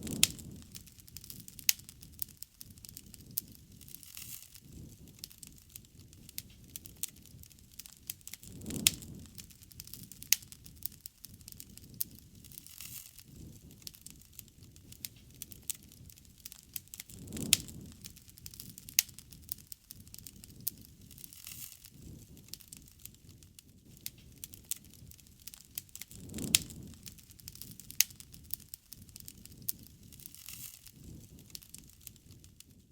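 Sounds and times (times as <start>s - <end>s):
campfire crackling and popping: 0.0s - 32.9s
soft rush of flame: 0.0s - 32.9s.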